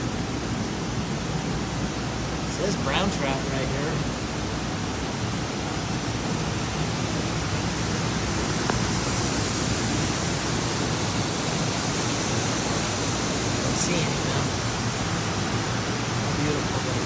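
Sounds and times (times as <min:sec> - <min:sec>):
steady rushing noise: 0:01.0 - 0:17.0.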